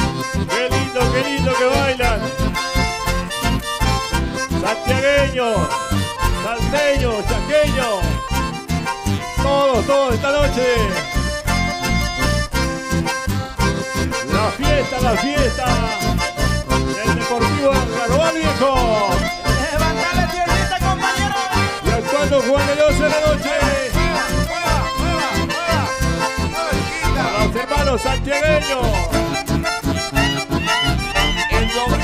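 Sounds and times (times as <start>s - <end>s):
acoustic guitars: 0.0s - 32.0s
bass: 0.0s - 32.0s
button accordions melody: 0.0s - 32.0s.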